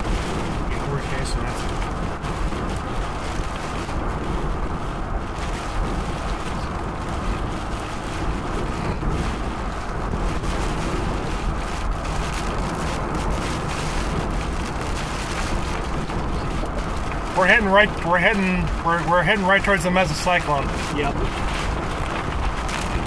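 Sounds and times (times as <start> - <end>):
high wind buffeting vehicle: 0.0 - 23.0
road noise: 0.0 - 23.0.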